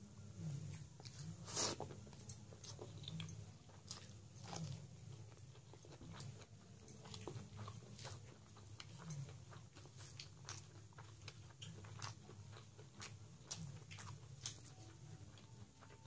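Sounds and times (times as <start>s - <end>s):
low steady hum: 0.0s - 16.0s
close chewing and mouth clicks: 0.7s - 16.0s.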